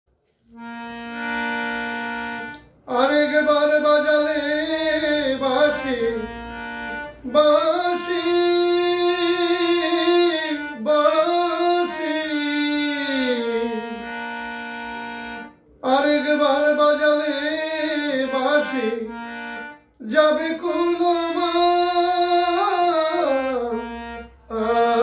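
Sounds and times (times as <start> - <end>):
harmonium chord: 0.2 - 25.0
man singing: 2.8 - 14.3, 15.8 - 25.0.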